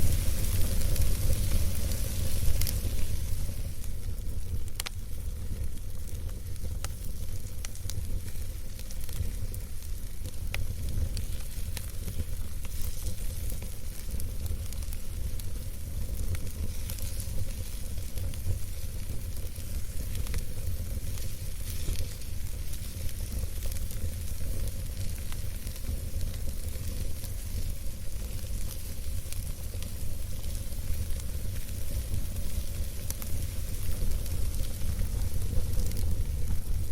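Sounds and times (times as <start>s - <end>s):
campfire crackling and popping: 0.0s - 36.9s
fire hissing: 0.0s - 36.9s.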